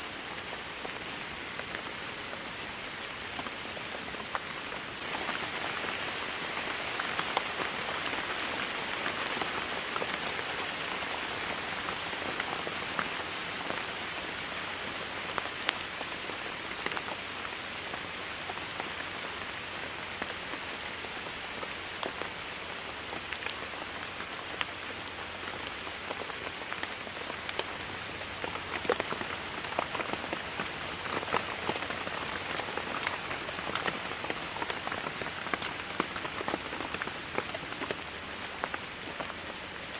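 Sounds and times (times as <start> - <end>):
raindrops pattering on hard surface: 0.1 - 39.9.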